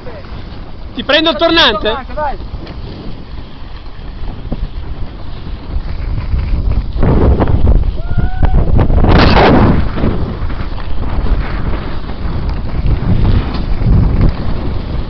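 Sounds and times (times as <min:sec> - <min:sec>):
skis scraping on packed snow: 0:00.0 - 0:08.1, 0:08.7 - 0:15.0
wind buffeting microphone: 0:00.0 - 0:15.0.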